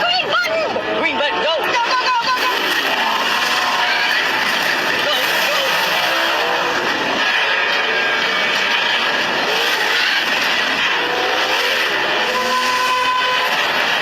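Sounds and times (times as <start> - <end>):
buggy engine racing: 0.0 - 14.0
dense rushing noise: 0.0 - 14.0.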